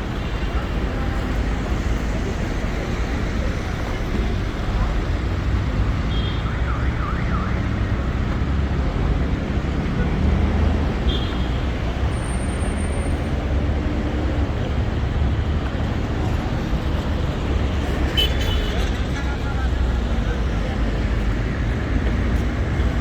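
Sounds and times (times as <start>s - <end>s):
traffic engine rumble: 0.0s - 23.0s.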